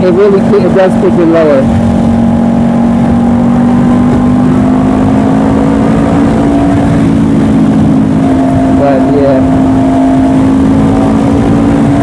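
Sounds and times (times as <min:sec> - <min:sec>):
motorcycle engine cruising: 0:00.0 - 0:12.0
wind on microphone: 0:00.0 - 0:12.0.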